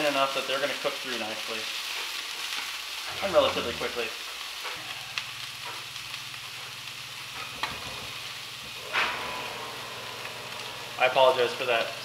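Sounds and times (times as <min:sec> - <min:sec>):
fish sizzling in frying pans: 0:00.0 - 0:12.0.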